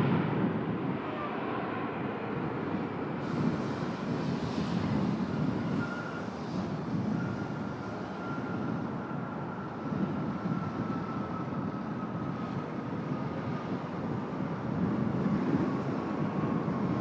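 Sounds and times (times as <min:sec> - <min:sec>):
high jet engine whine: 0:00.0 - 0:17.0
jet engine rumble: 0:00.0 - 0:17.0.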